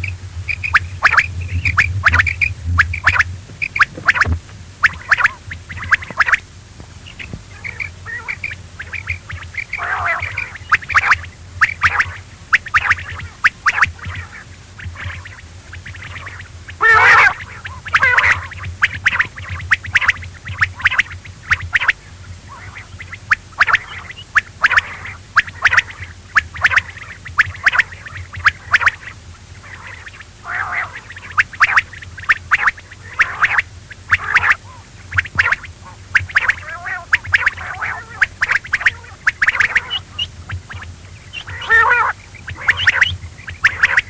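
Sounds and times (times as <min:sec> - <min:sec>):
quail calling: 0:00.0 - 0:44.0
steady low hum: 0:00.0 - 0:44.0.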